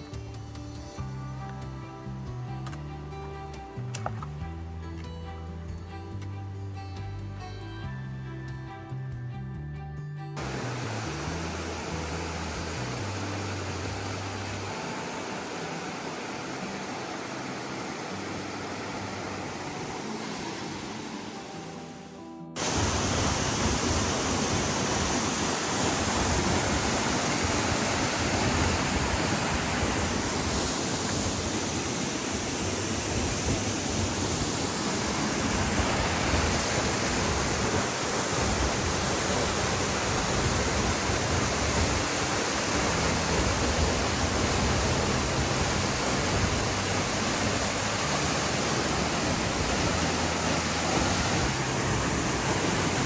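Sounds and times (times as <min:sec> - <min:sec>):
waterfall rushing: 0:10.4 - 0:53.0.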